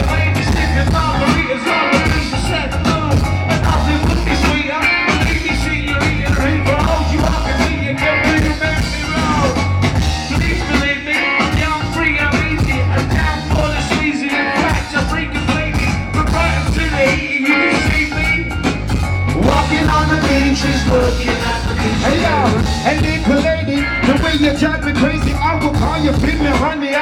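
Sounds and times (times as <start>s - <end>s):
live band playing: 0.0s - 27.0s.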